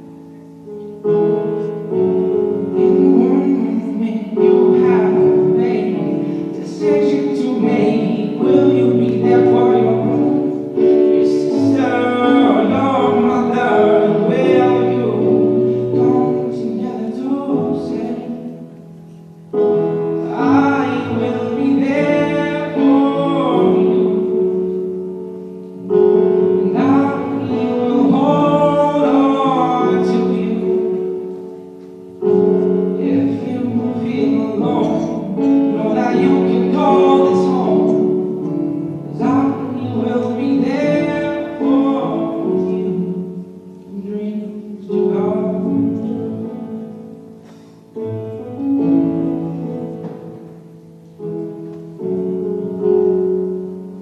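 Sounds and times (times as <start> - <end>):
piano accompaniment: 0.0 - 54.0
person singing: 1.2 - 19.0, 19.6 - 25.0, 25.7 - 50.4.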